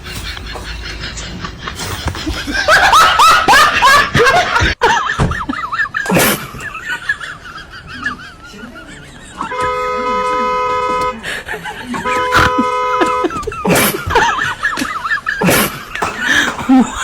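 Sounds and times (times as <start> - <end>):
high-pitched laughter: 0.0 - 9.6, 11.2 - 17.0.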